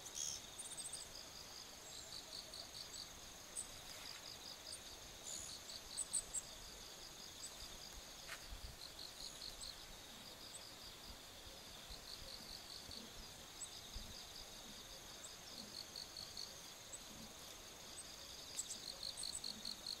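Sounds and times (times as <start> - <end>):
insects buzzing and chirping: 0.0 - 20.0.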